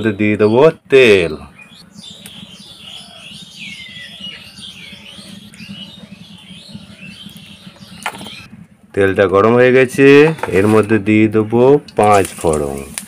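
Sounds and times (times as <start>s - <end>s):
steady low hum: 0.0s - 12.0s
birds chirping: 0.0s - 13.0s.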